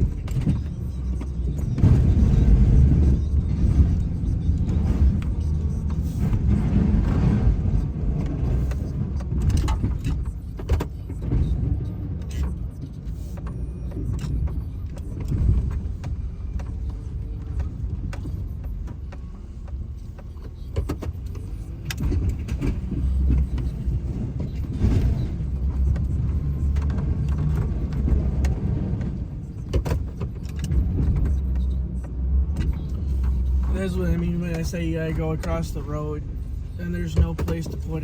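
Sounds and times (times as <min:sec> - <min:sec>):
plow truck engine rumble: 0:00.0 - 0:38.0.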